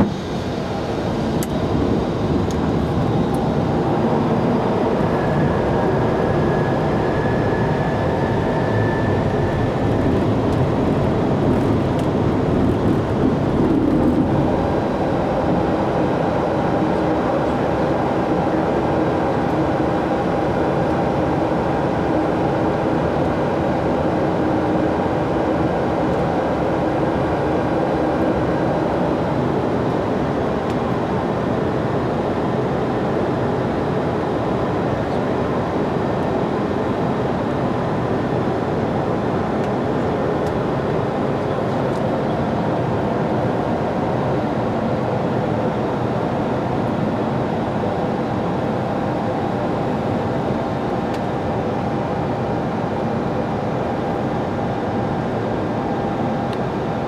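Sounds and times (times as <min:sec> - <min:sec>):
cockpit airflow and engine rumble: 0:00.0 - 0:57.0.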